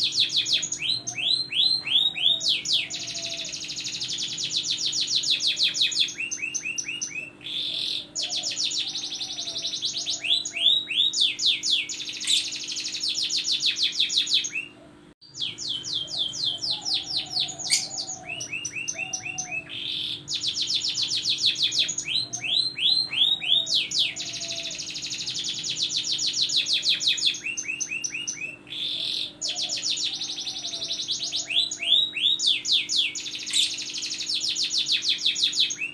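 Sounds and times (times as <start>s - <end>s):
canary singing trills: 0.0s - 35.9s.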